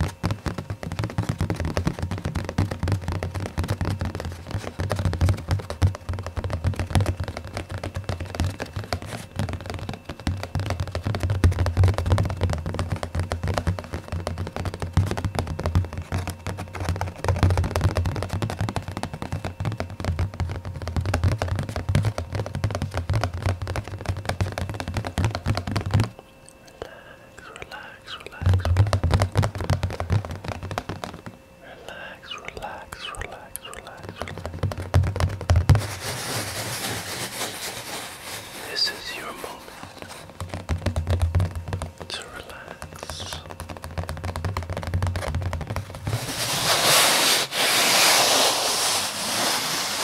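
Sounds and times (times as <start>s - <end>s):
fingertips tapping rapidly: 0.0s - 47.3s.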